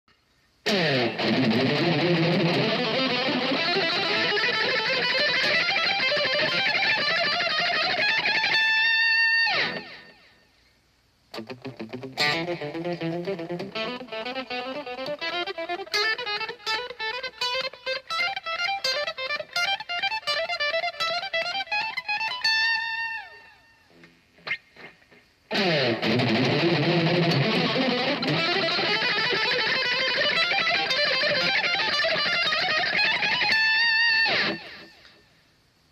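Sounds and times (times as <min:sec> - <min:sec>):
fast electric guitar picking: 0:00.7 - 0:10.2, 0:11.3 - 0:22.8, 0:25.5 - 0:35.1.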